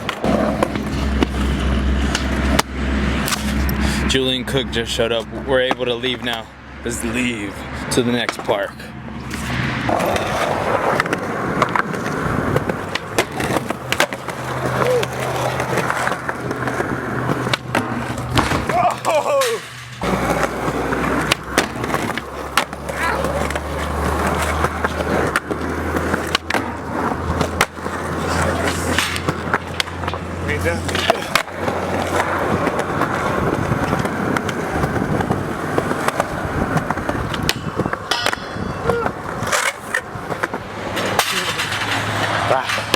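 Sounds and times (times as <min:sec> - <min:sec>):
skateboard wheels rolling: 0:00.0 - 0:04.1, 0:04.8 - 0:42.9.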